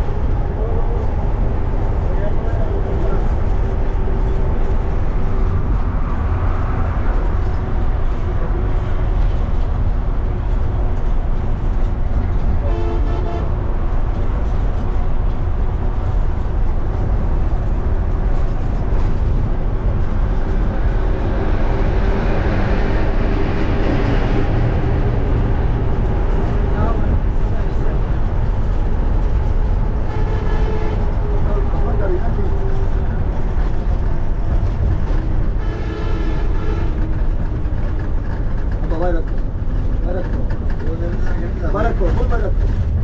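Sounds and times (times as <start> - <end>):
rushing noise: 0.0 - 39.9
bus engine and road rumble: 0.0 - 43.0.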